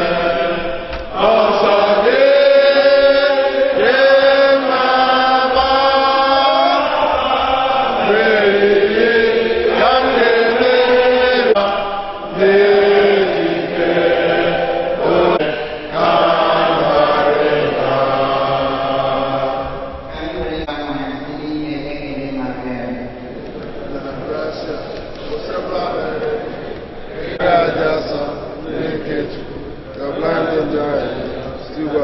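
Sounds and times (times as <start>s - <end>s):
group chanting slowly: 0.0s - 20.7s, 23.0s - 32.0s.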